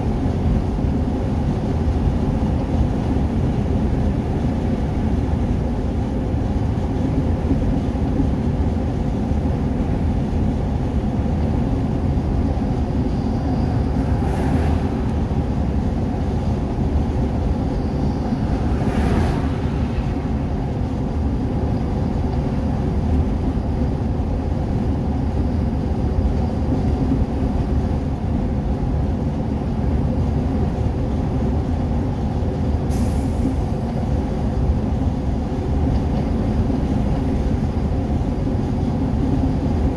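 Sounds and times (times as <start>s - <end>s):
vehicle engine and road drone: 0.0s - 39.9s.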